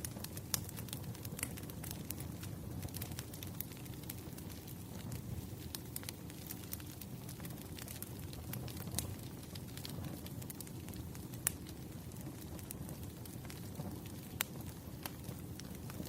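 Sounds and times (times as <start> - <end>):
firewood burning with crackles: 0.0 - 16.0.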